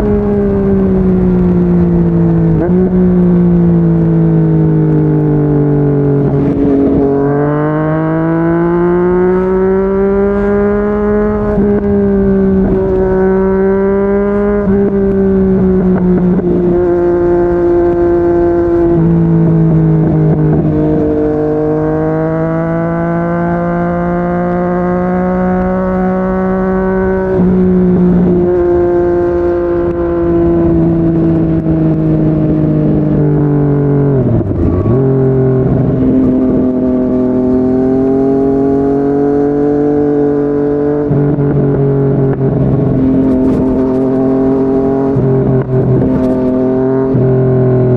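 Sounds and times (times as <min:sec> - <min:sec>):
motorcycle engine at speed: 0:00.0 - 0:47.9
wind and road noise: 0:00.0 - 0:47.9.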